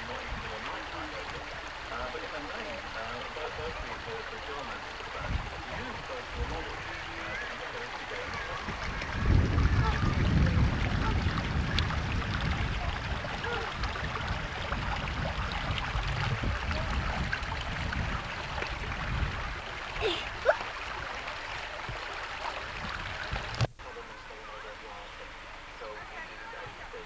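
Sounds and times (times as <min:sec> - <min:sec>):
wind rumble on microphone: 0:00.0 - 0:23.8
stream running over stones: 0:00.0 - 0:27.0.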